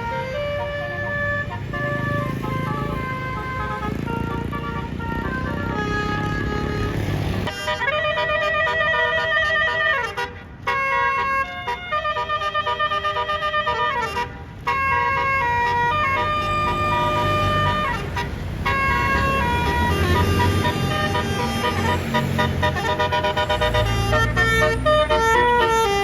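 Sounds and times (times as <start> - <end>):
multi-tone bus horn melody: 0.0 - 26.0.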